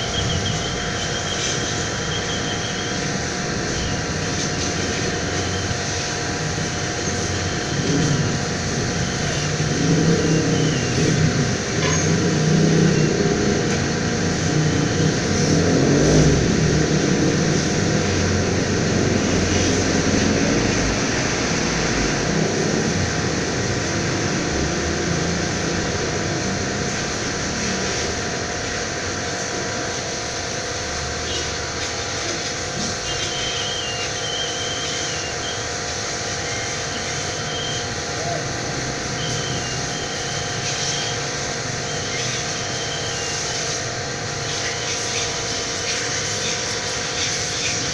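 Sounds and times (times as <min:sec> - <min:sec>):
pressure washer droning: 0:00.0 - 0:47.9.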